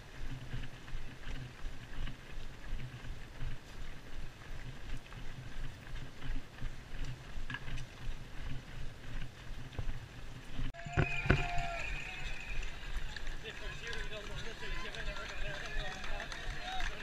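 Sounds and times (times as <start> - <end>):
footfalls on tarmac: 0.0 - 17.0.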